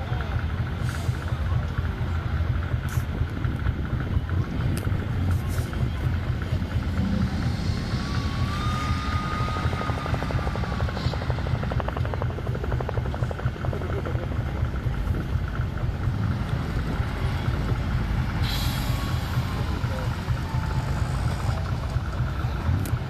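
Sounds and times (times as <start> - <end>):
truck diesel engine rumbling: 0.0 - 23.0.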